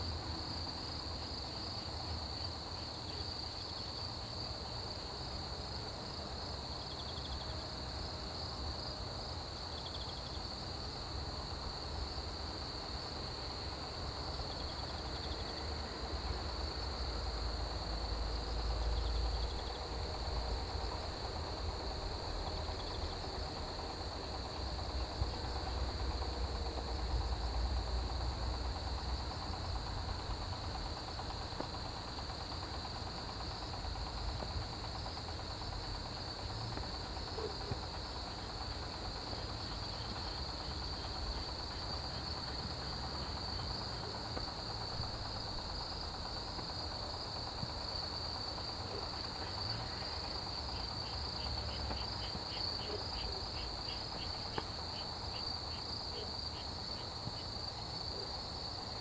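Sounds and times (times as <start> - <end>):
continuous high insect trill: 0.0 - 59.0
rapidly pulsing insect trill: 0.0 - 59.0.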